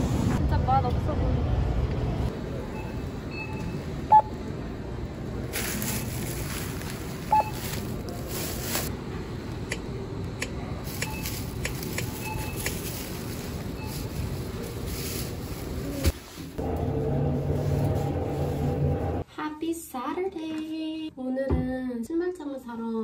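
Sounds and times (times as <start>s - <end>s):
steady background noise: 0.0s - 19.3s.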